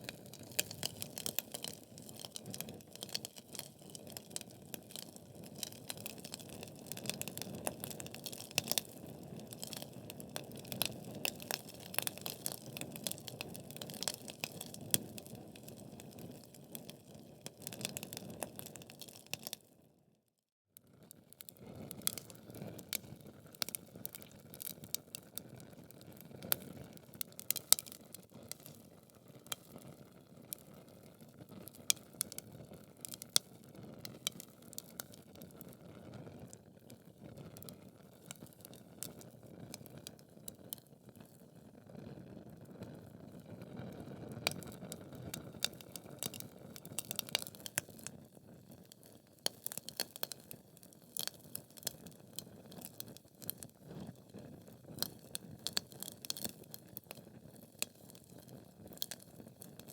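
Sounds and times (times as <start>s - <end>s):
logs crackling and popping: 0.0s - 19.6s, 21.5s - 35.8s, 37.5s - 41.4s, 44.4s - 59.9s.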